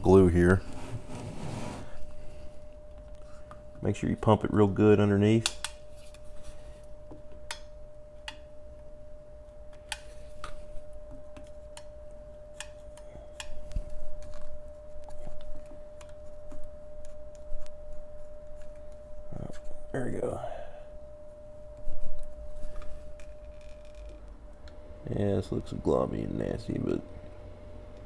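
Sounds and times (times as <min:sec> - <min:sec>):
faint steady tone: 0:01.9 - 0:28.0.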